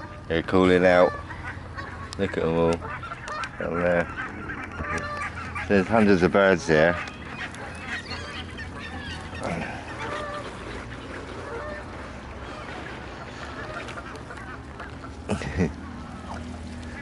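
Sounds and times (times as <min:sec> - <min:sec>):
flock of geese honking: 0:00.0 - 0:17.0.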